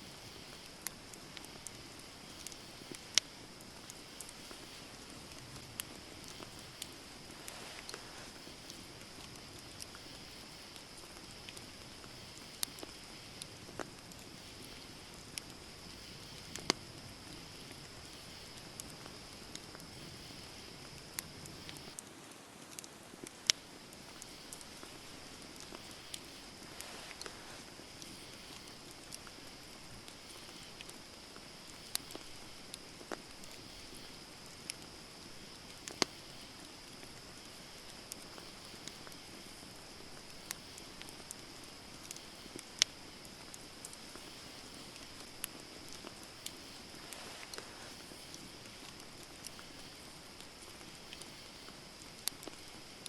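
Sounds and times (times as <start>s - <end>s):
campfire wood crackling and popping: 0.0s - 53.0s
steady high-pitched hiss: 0.0s - 53.0s.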